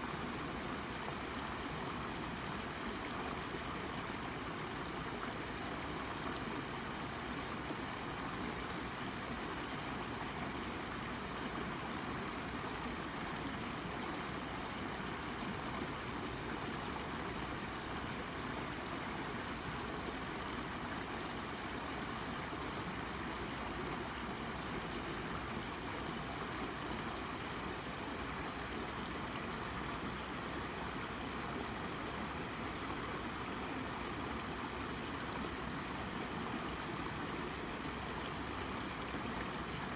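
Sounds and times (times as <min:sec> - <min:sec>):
brook babbling over rock: 0:00.0 - 0:39.9.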